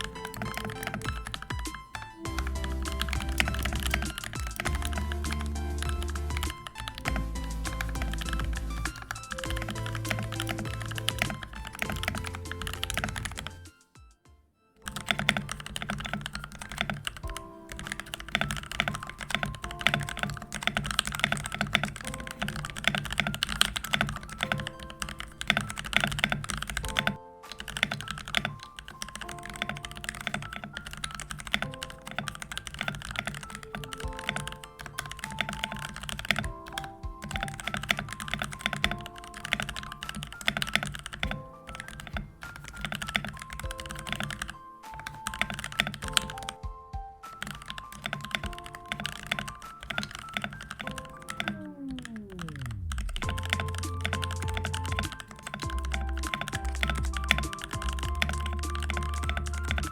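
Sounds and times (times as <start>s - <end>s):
typing on mechanical keyboard: 0.0s - 13.8s, 14.8s - 59.9s
background music: 0.0s - 59.9s.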